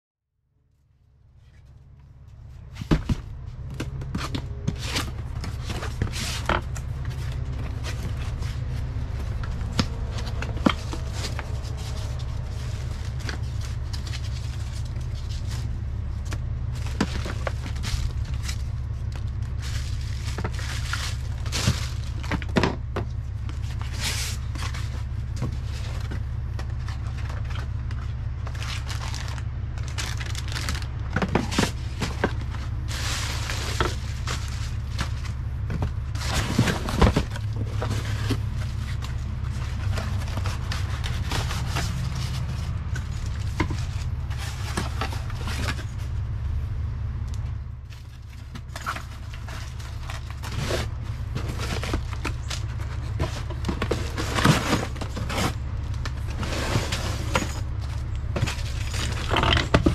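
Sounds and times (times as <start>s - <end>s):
low rumble: 1.1s - 59.9s
packaging rustling and scraping: 1.4s - 46.6s, 47.4s - 59.9s.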